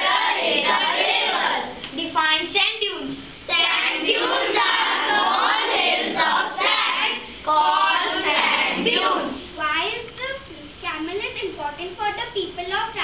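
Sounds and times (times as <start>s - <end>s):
children speaking in unison: 0.0s - 13.0s.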